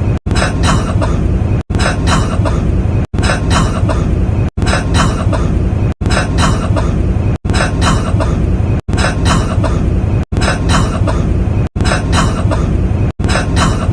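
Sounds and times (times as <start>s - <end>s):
man coughing: 0.3s - 13.9s.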